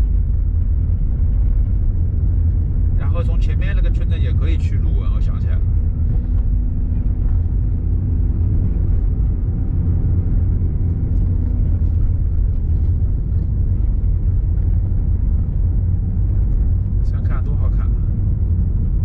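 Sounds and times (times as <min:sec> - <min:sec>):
engine and tyres rumbling: 0:00.0 - 0:19.0.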